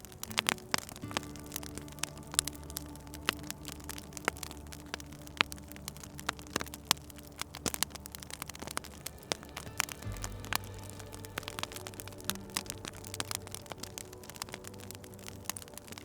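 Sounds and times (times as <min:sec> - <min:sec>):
low steady hum: 0:00.0 - 0:16.0
wood fire crackling: 0:00.0 - 0:16.0.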